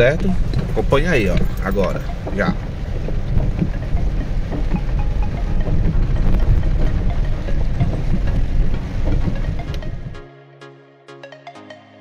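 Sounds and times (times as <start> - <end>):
car engine and road rumble: 0.0 - 10.2
rain tapping on windshield: 0.0 - 10.2.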